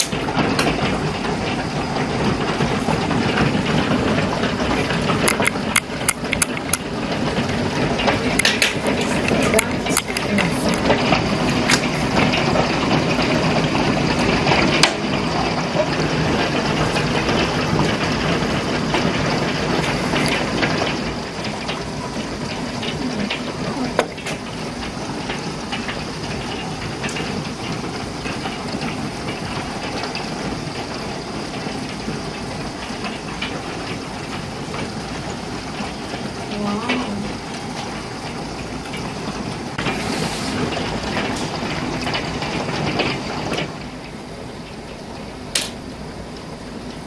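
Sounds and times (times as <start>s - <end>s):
hailstones clicking on cars: 0.0s - 47.0s
heavy rain hissing: 0.0s - 47.0s.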